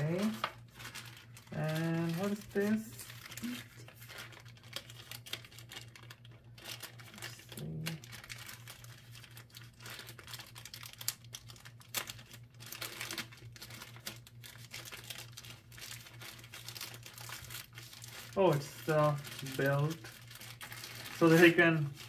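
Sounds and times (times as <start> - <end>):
plastic bag crinkling and rustling: 0.0 - 22.0.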